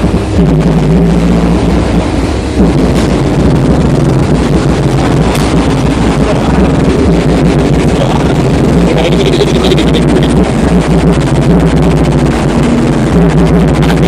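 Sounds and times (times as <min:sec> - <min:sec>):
bass-heavy music from subwoofers: 0:00.0 - 0:14.0.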